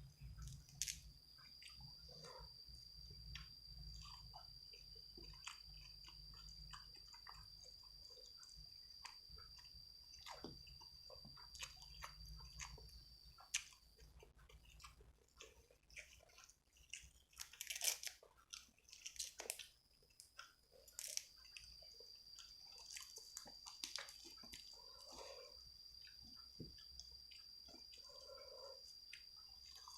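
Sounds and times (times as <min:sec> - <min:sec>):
chewing and crunching food: 0:00.0 - 0:29.9.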